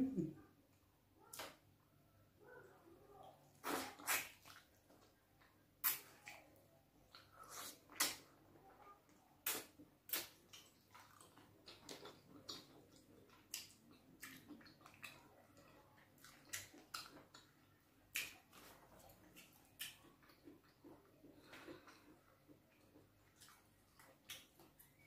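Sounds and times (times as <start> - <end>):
chewing and lip smacks: 3.6 - 8.4, 9.1 - 25.0.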